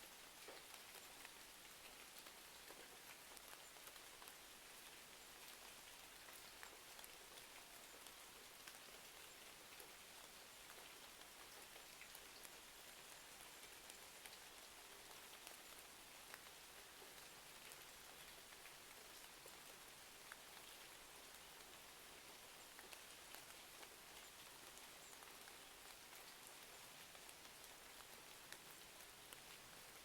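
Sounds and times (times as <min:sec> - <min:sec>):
rain hiss: 0:00.0 - 0:30.0.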